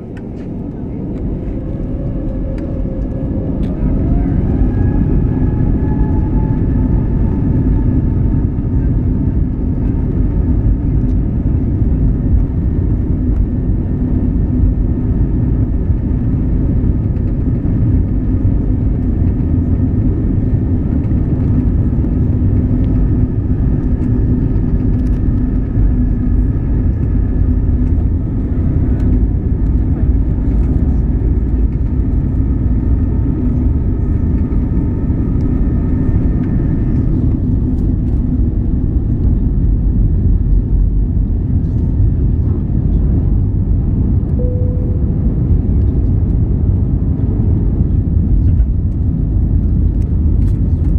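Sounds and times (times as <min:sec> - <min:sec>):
jet engine rumble in cabin: 0:00.0 - 0:50.9
steady engine whine: 0:00.0 - 0:50.9.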